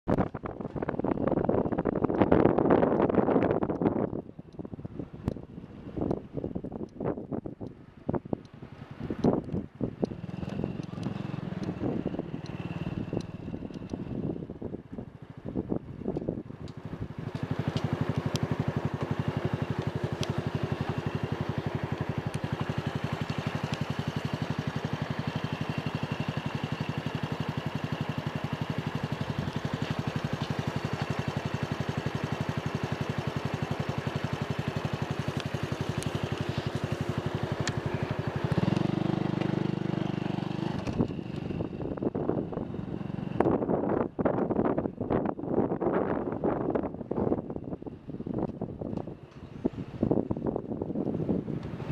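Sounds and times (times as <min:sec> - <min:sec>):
motorcycle engine idling: 0:00.2 - 0:51.9.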